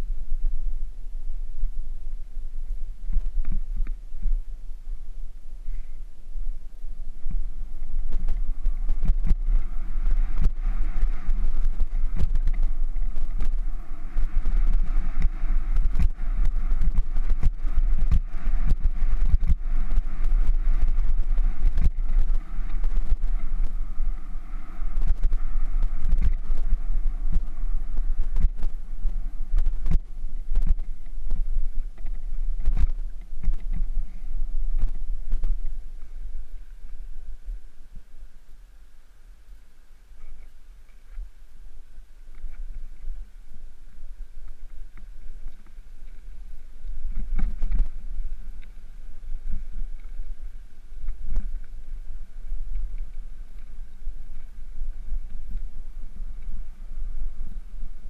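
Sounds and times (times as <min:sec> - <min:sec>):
bicycle rolling over gravel: 0:01.3 - 0:38.3, 0:40.3 - 0:58.0.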